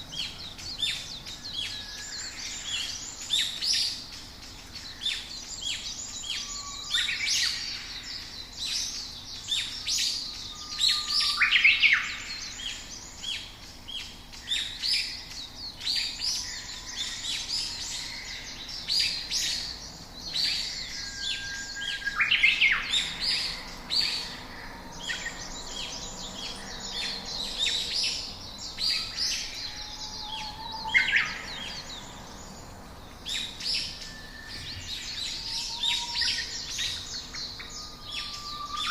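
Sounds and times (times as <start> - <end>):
background hiss: 0.0 - 38.9
small birds chirping: 0.0 - 38.9.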